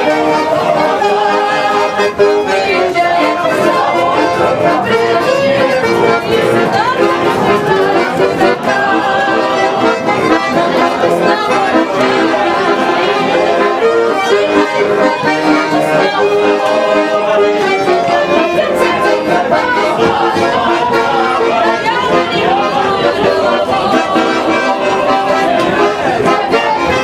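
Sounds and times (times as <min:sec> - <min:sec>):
button accordion playing a tune: 0:00.0 - 0:27.0.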